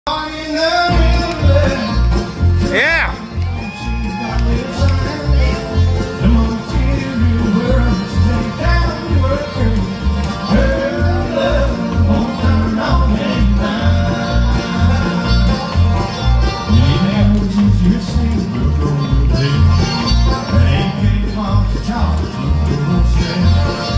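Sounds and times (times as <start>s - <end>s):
bluegrass band playing: 0.1s - 23.9s
banjo: 0.5s - 23.9s.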